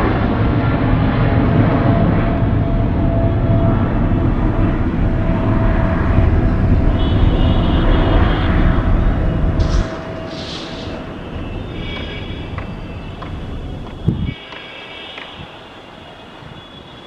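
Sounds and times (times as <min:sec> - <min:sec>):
jet engines rumbling: 0:00.0 - 0:14.6.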